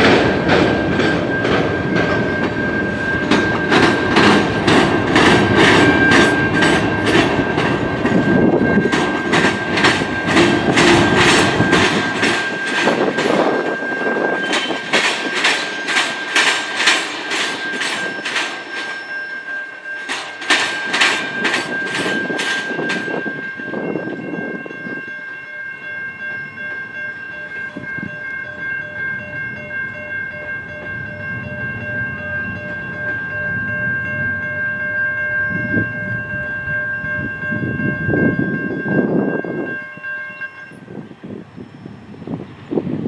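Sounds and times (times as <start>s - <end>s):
high-pitched train tone: 0.0s - 43.0s
train rumble: 0.0s - 43.0s.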